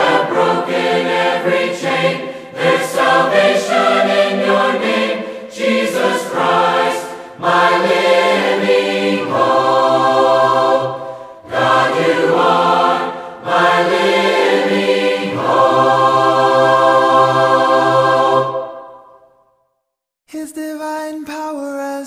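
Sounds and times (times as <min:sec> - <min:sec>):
mixed choir singing a cappella: 0:00.0 - 0:19.3.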